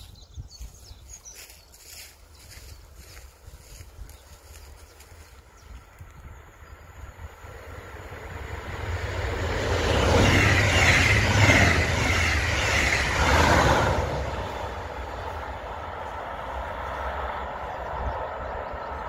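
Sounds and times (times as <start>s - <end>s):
train wheels rumbling on rails: 1.4s - 19.0s.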